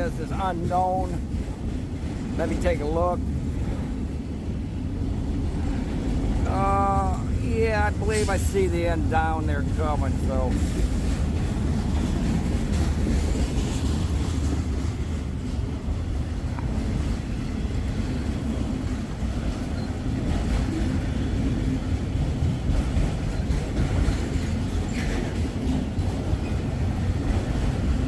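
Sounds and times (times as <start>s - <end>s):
freight train rumbling on rails: 0.0s - 28.0s.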